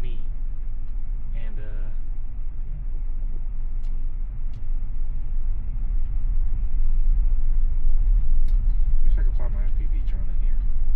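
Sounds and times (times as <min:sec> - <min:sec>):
car road and engine noise: 0:00.0 - 0:10.9.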